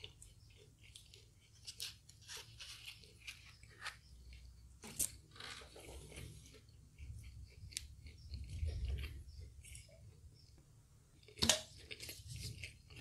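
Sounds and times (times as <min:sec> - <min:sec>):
chewing fried chicken: 0:00.0 - 0:13.0.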